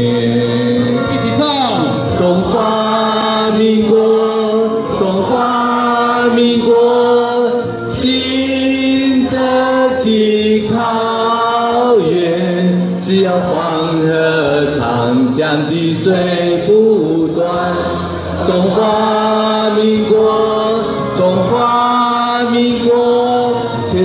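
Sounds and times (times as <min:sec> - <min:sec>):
group singing in unison: 0:00.0 - 0:01.2, 0:01.9 - 0:24.0.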